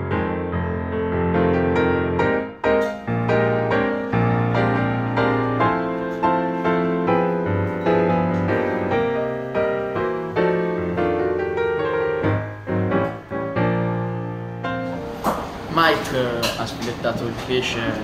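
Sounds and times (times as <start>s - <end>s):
solo piano chords: 0.0s - 18.0s.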